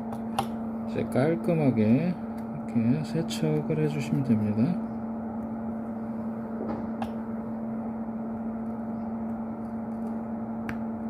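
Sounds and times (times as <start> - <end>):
electrical machine hum: 0.0 - 11.0.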